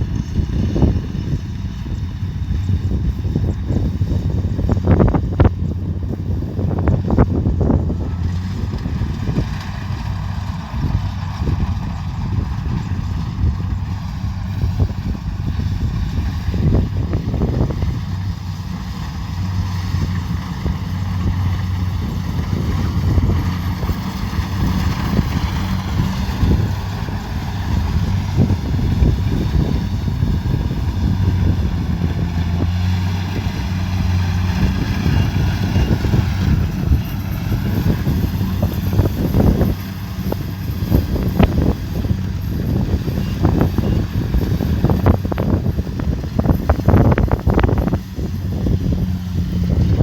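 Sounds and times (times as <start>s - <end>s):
combine harvester engine hum: 0.0s - 50.0s.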